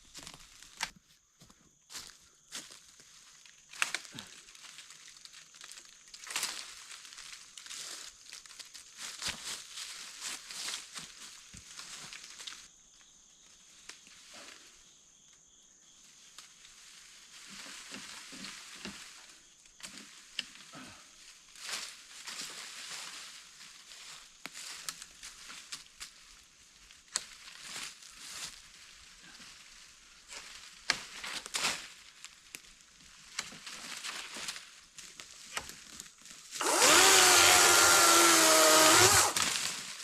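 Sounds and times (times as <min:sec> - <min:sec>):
dry brush and leaves crackling: 0:00.0 - 0:01.0, 0:01.9 - 0:12.7, 0:16.2 - 0:40.0.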